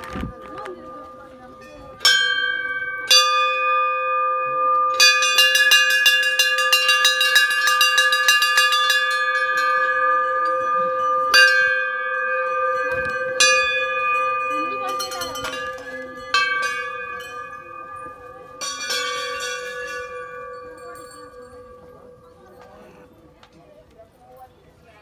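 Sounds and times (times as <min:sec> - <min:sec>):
large brass bell struck: 0:00.6 - 0:23.0.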